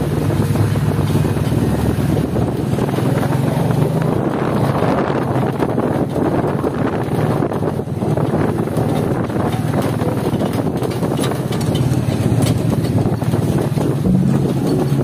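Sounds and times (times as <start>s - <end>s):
vehicle engine humming: 0.0s - 15.0s
wind noise on microphone: 0.0s - 15.0s.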